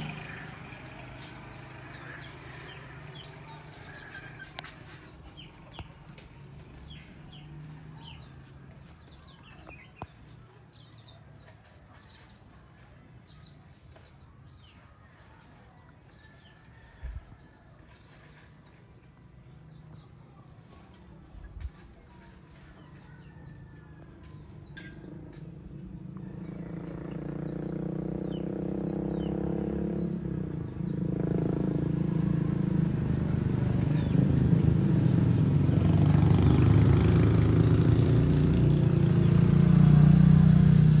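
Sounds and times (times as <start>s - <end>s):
birds chirping: 0.0s - 31.8s, 33.7s - 39.8s
vehicle engine approaching: 0.0s - 41.0s.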